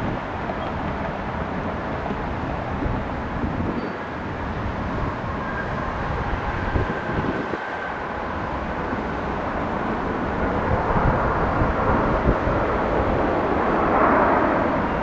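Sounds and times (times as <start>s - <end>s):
jet engine rushing: 1.8s - 15.0s.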